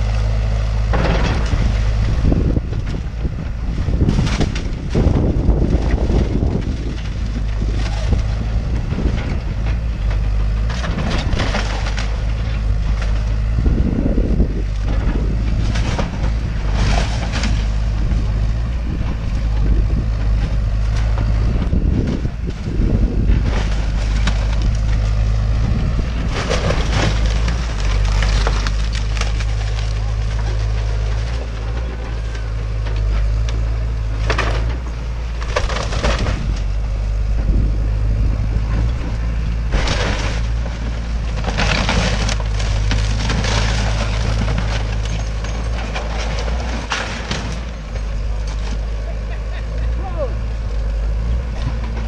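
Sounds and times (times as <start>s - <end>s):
wood cracking and splintering: 0.0s - 37.6s, 38.5s - 52.0s
excavator engine humming: 0.0s - 52.0s.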